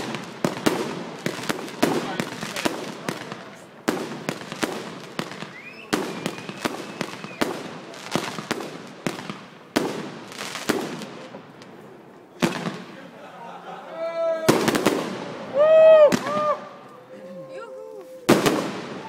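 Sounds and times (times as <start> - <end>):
fireworks bangs: 0.0 - 13.2, 14.4 - 16.9, 18.2 - 19.0
fireworks crackling: 0.0 - 13.5, 14.3 - 19.0.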